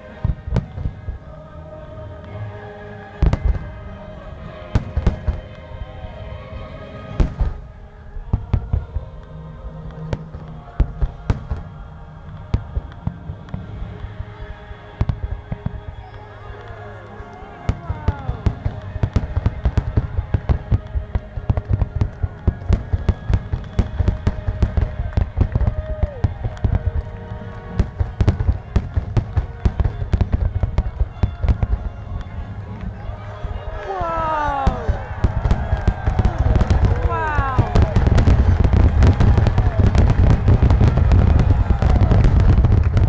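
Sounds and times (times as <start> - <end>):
show music: 0.0 - 43.0
fireworks bursting with booms: 0.1 - 1.4, 3.2 - 6.0, 7.1 - 9.1, 10.0 - 16.2, 17.6 - 43.0.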